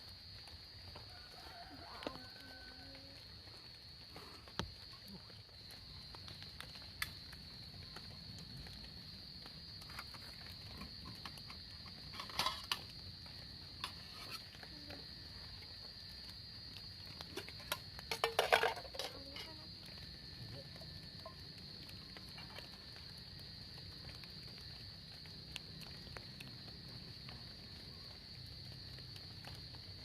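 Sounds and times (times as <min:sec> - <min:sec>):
insects chirping chorus: 0:00.0 - 0:30.0.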